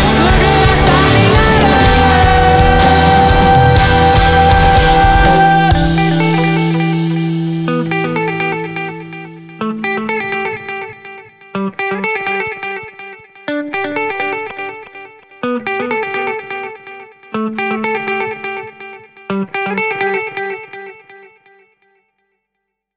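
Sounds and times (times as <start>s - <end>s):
electric guitar picked notes: 0.0s - 22.0s.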